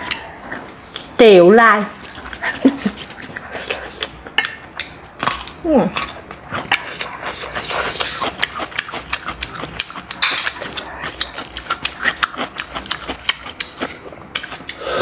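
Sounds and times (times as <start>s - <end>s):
person chewing with wet smacking: 1.9s - 15.0s.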